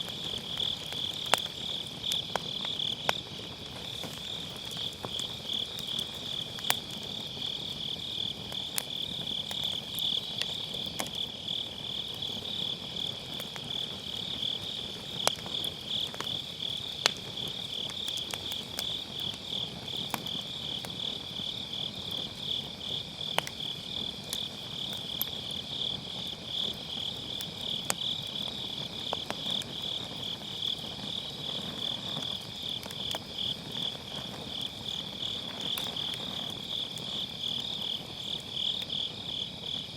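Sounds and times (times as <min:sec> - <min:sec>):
crickets chirping: 0:00.0 - 0:39.9
firewood popping: 0:00.0 - 0:39.9
wood fire crackling: 0:00.0 - 0:39.9.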